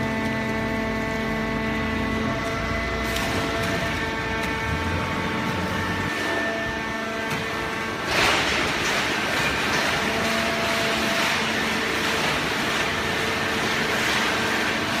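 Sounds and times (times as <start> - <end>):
hydraulic power unit hum: 0.0 - 15.0.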